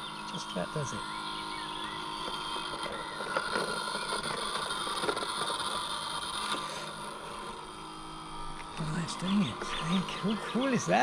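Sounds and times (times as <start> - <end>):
robot lawnmower motor whine: 0.0 - 11.0.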